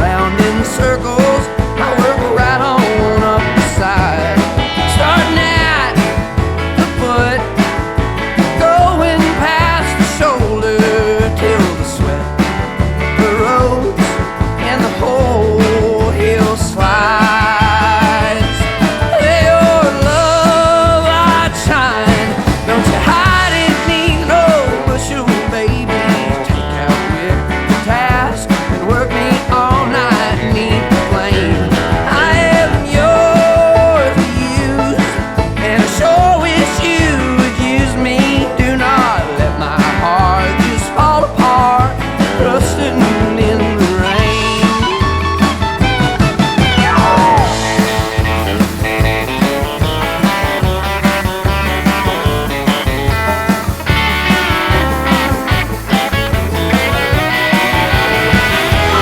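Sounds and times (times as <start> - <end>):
person singing: 0.0 - 45.8, 46.4 - 49.1, 54.3 - 59.0
guitar: 0.0 - 59.0
steady drum beat: 0.0 - 59.0.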